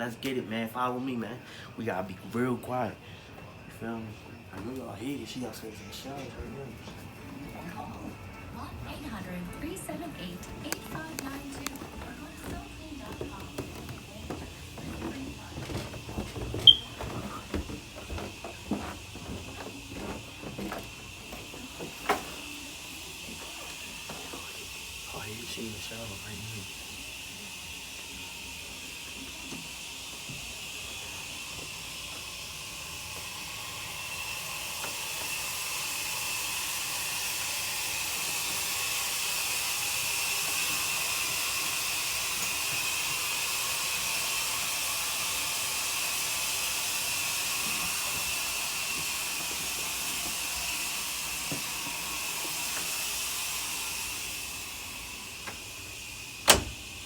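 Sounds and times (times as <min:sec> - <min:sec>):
shower spray hissing: 0:08.6 - 0:57.0.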